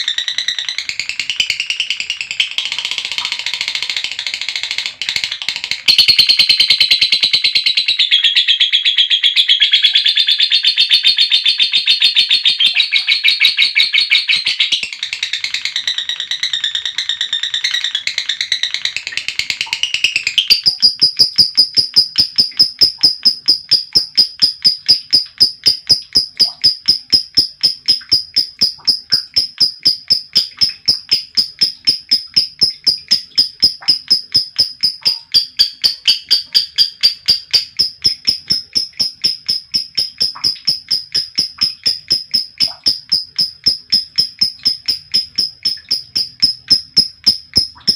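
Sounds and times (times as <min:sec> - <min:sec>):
sharp high-pitched bird chirps: 0:00.0 - 0:47.9
lovebird chattering song: 0:05.9 - 0:47.9.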